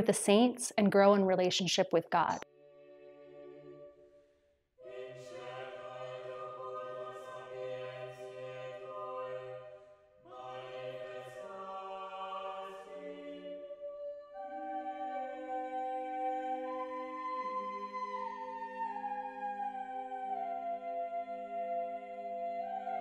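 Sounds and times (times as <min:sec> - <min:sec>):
choir singing slow chords: 0:02.4 - 0:23.0.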